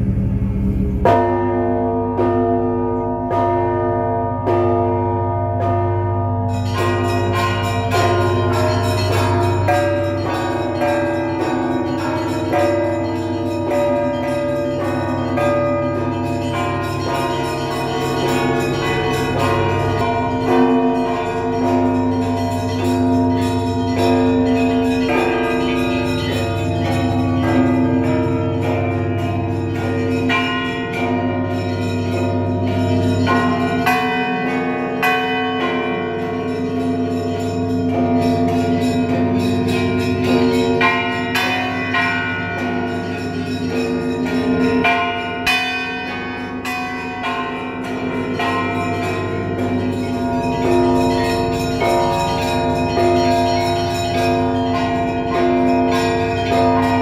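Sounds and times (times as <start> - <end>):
church bells ringing: 0.0 - 57.0
hum of a large bell: 0.0 - 57.0.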